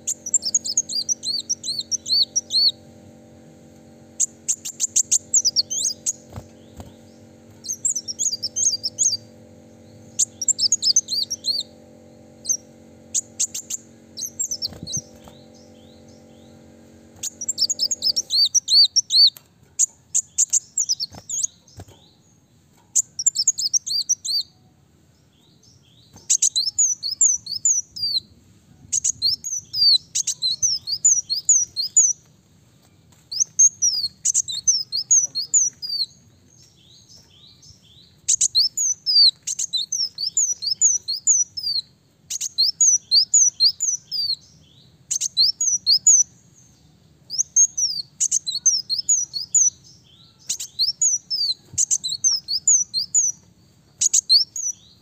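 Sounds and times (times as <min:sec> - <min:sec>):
sunbird chirping song: 0:00.0 - 0:55.0.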